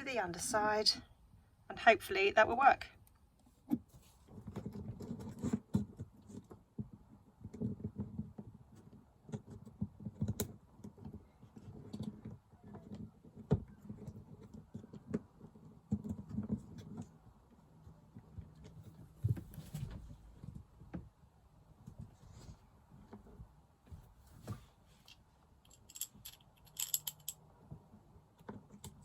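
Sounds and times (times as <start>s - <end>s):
wiring rustling and clicking: 4.0s - 29.0s.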